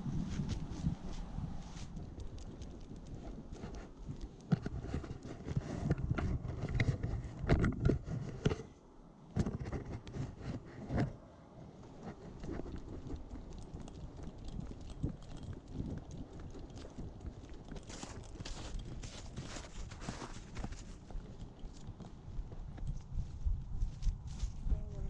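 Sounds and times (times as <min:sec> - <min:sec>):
low rumble of wind: 0:00.0 - 0:25.0
paws striking asphalt: 0:00.2 - 0:08.0, 0:11.7 - 0:24.1
camera knocking and rubbing: 0:00.2 - 0:08.7, 0:09.3 - 0:23.0.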